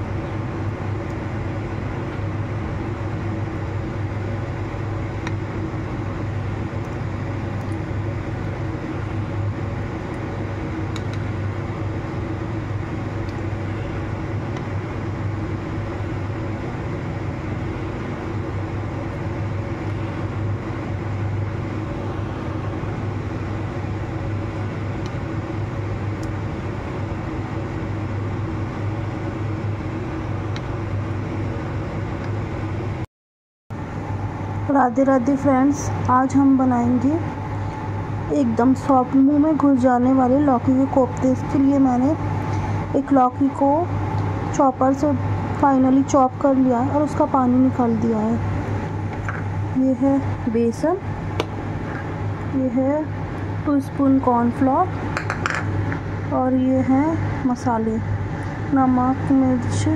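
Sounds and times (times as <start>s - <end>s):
low mechanical hum with hiss: 0.0s - 33.1s, 33.7s - 59.9s.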